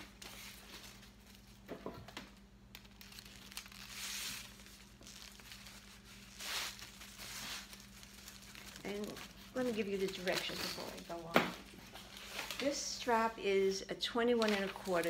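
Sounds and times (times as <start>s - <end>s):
packaging wrap crinkling: 0.0s - 12.8s, 14.3s - 15.0s.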